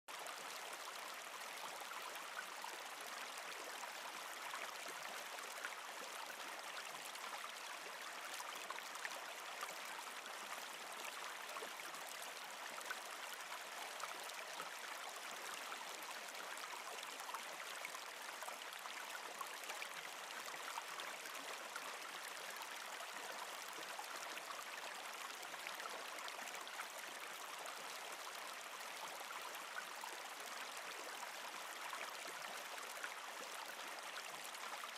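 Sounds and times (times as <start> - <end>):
faint water trickles: 0.1 - 34.9
stream flowing: 0.1 - 34.9.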